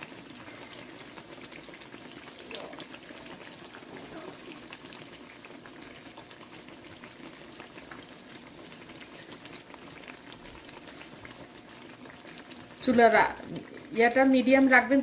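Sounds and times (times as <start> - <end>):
eggplant slices deep-frying in oil: 0.0 - 15.0.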